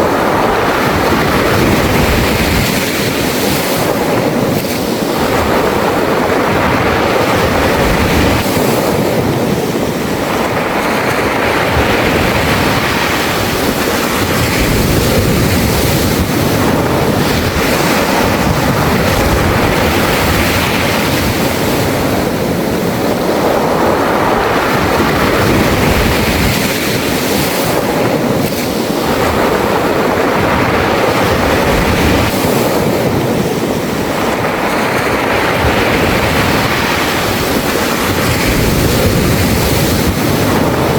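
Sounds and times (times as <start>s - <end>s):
sea waves washing on beach: 0.0s - 40.9s.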